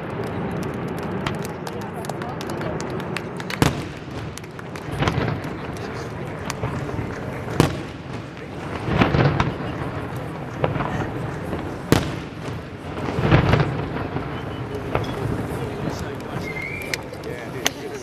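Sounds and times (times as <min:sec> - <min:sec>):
fireworks bangs and crackles: 0:00.0 - 0:18.0
rumbling firework bursts: 0:00.0 - 0:18.0.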